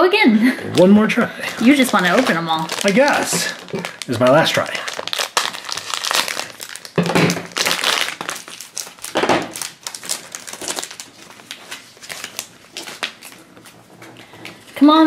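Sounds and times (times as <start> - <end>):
plastic wrapper crinkling: 0.8 - 14.6.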